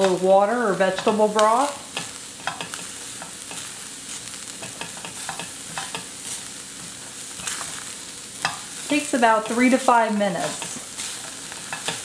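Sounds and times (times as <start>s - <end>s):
onions sizzling in a skillet: 0.0s - 12.0s
spatula scraping and tapping pan: 0.8s - 12.0s.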